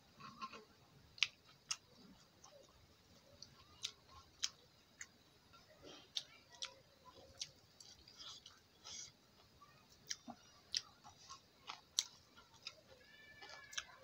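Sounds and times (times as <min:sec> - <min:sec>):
chewing with wet mouth clicks: 0:01.2 - 0:02.8, 0:03.4 - 0:05.2, 0:06.1 - 0:14.0.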